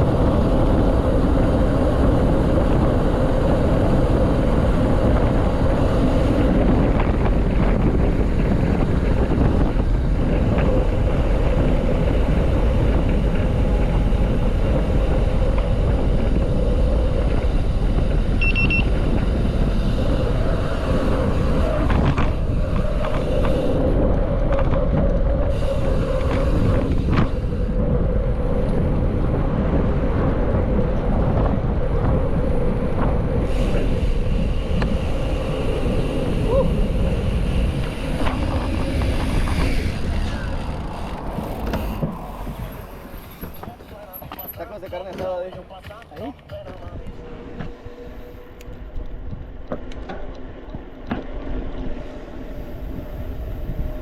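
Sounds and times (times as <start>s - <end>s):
constant hum: 0.0s - 54.0s
wind buffeting the microphone: 0.0s - 54.0s.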